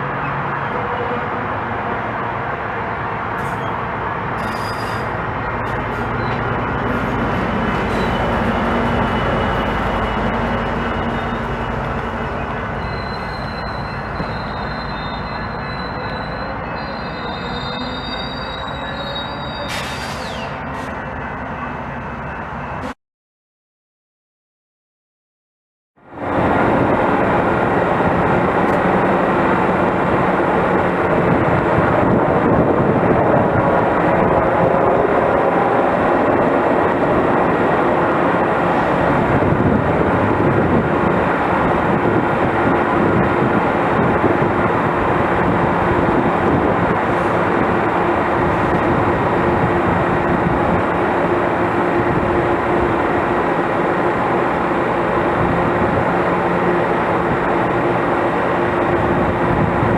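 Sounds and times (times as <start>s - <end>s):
train running by: 0.0s - 23.0s, 26.0s - 59.9s.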